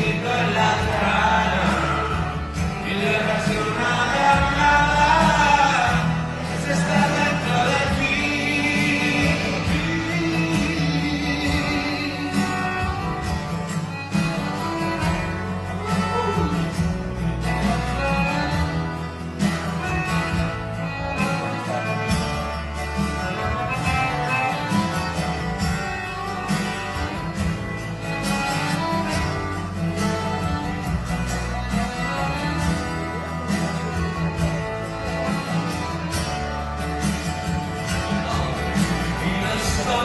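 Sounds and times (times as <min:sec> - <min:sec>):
accordion: 0:00.0 - 0:40.0
acoustic guitar: 0:00.0 - 0:40.0.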